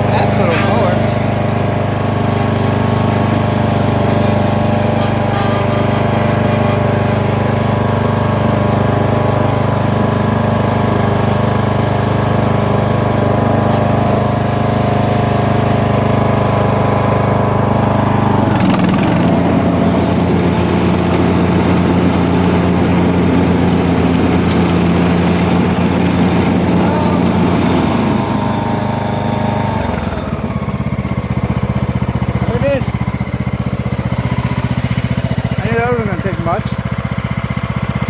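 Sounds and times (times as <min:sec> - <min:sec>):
lawn mower engine running: 0:00.0 - 0:38.0.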